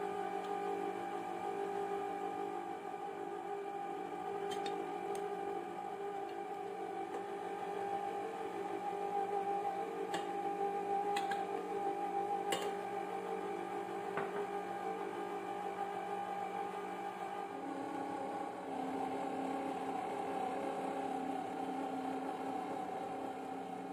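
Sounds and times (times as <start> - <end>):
stand mixer motor humming: 0.0 - 23.9.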